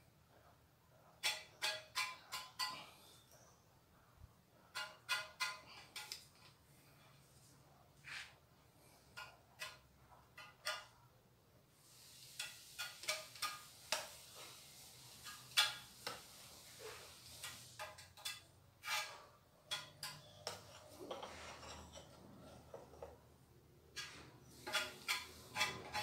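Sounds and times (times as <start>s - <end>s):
spatula scraping and clinking on tile: 1.2s - 3.4s, 4.7s - 6.6s, 8.1s - 11.0s, 11.9s - 26.0s.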